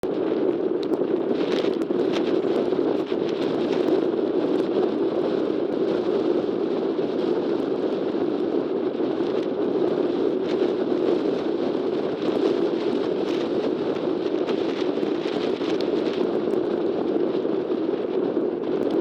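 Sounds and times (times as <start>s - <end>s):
faint crackles: 0.0s - 19.0s.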